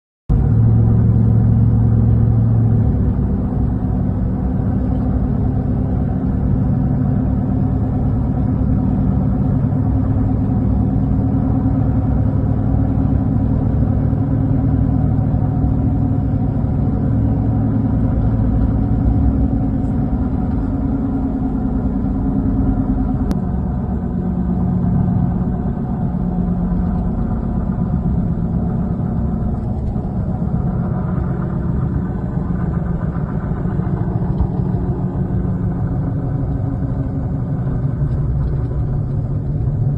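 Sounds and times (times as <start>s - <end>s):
truck engine running: 0.3s - 39.9s.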